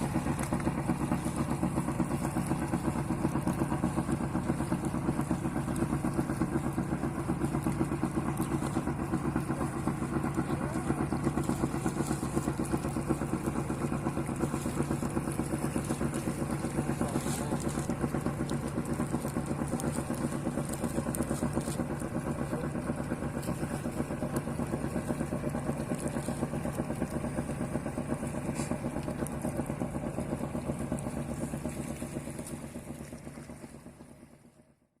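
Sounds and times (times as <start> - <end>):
boat engine chugging: 0.0 - 35.0.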